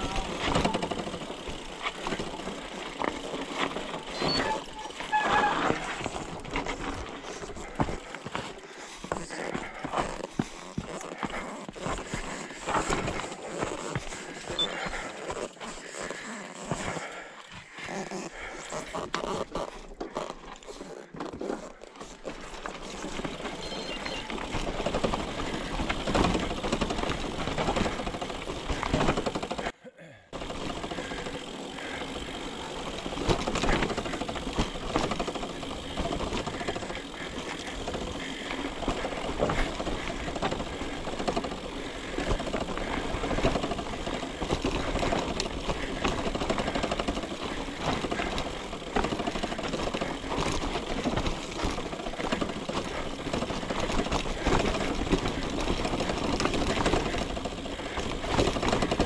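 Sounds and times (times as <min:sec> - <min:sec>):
mountain bike clattering and rattling: 0:00.0 - 0:29.7, 0:30.3 - 0:59.0
tyres on gravel: 0:00.0 - 0:29.7, 0:30.3 - 0:59.0.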